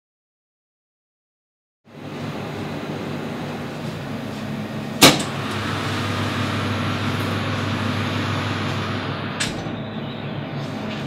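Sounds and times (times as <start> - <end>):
test chamber fan and refrigeration hum: 1.9 - 11.0.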